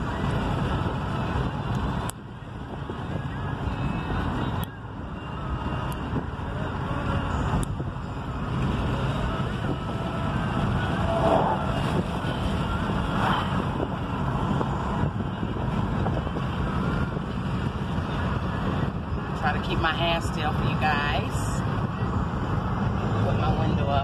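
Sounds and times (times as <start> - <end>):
wind and road noise in car: 0.0 - 24.0.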